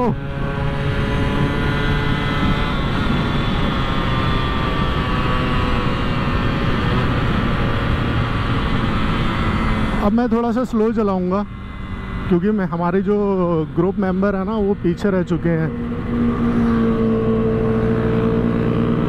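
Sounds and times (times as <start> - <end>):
motorcycle engine at high revs: 0.0 - 19.0
wind rush on microphone: 0.0 - 19.0.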